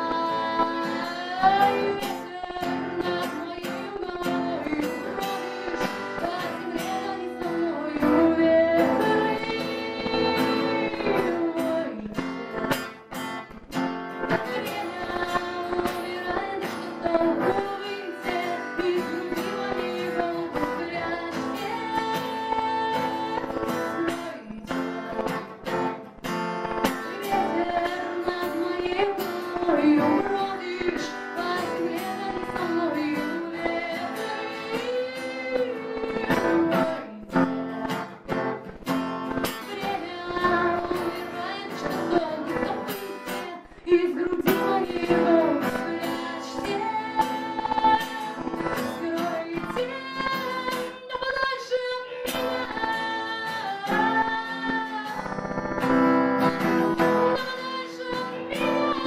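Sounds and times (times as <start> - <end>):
acoustic guitar strumming: 0.0 - 59.0
woman singing: 0.0 - 59.0.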